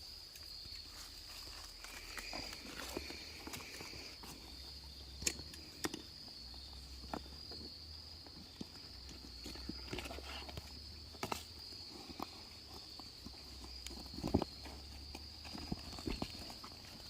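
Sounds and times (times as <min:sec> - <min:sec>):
insects droning high-pitched: 0:00.0 - 0:17.0.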